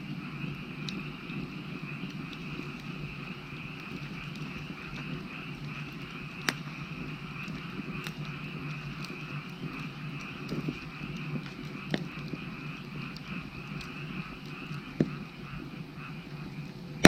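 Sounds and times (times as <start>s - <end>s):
frogs croaking: 0.0s - 17.0s
wood fire crackling and popping: 0.0s - 17.0s.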